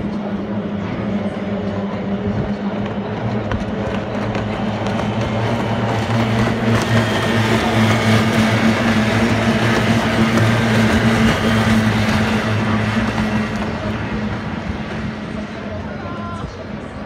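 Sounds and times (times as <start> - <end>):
racing boat engines buzzing: 0.0 - 17.0.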